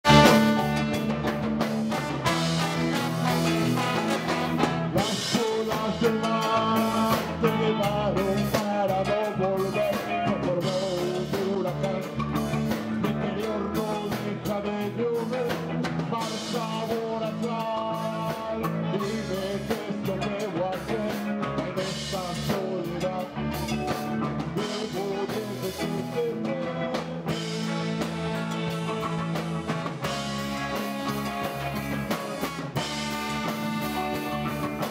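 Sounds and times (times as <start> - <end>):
drum kit: 0.0 - 34.9
electric guitar: 0.0 - 34.9
trombone: 0.0 - 34.9
person singing: 1.9 - 34.9.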